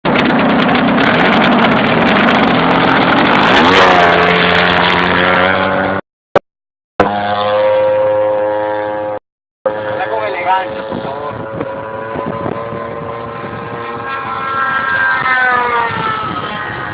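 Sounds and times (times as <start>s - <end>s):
model plane engine running: 0.1s - 5.4s, 7.0s - 16.9s.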